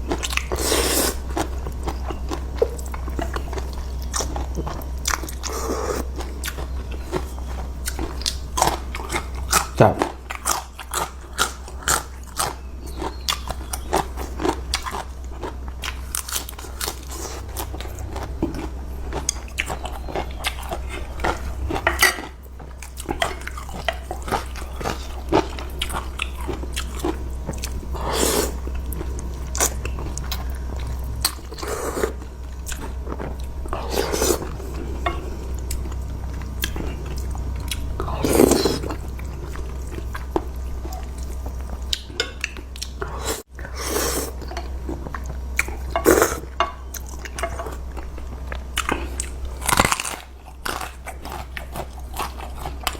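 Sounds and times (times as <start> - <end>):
chewing and crunching food: 0.0 - 52.9.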